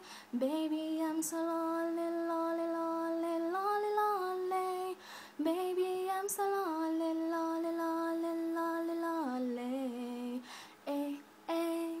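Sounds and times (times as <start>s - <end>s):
young woman singing unaccompanied: 0.0s - 12.0s.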